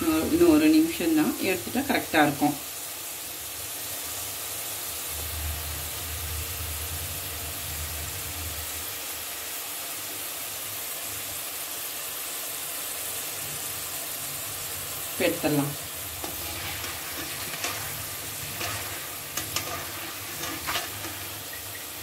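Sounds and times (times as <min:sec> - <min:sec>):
beans sizzling in hot oil: 0:00.0 - 0:22.0.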